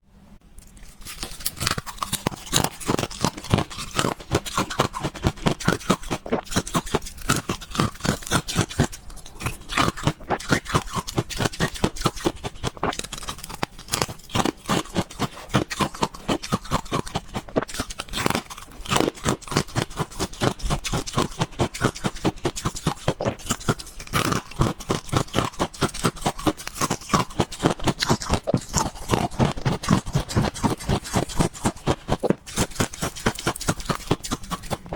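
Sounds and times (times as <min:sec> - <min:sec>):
ice being crunched and chewed: 0:00.6 - 0:34.9.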